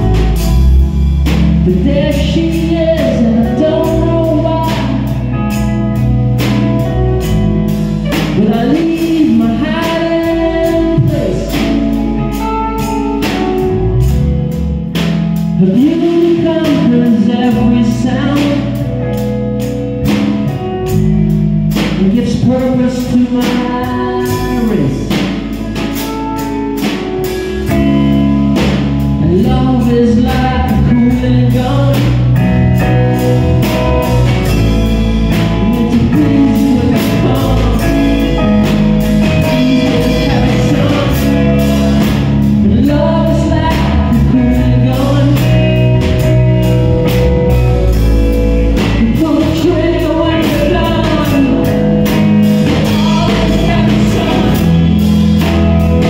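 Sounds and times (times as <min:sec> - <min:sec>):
bending lead guitar line: 0:00.0 - 0:56.0
drum kit steady beat: 0:00.0 - 0:56.0
electric guitars: 0:00.0 - 0:56.0.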